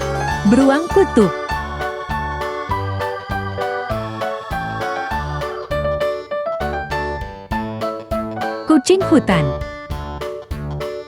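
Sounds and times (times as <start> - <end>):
bouncy keyboard tune with bass beat: 0.0 - 11.0.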